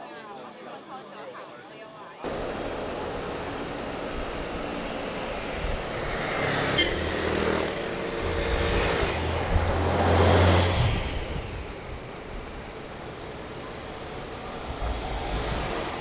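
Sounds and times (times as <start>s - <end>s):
bus passing: 2.3s - 16.0s
scooter passing: 2.3s - 16.0s.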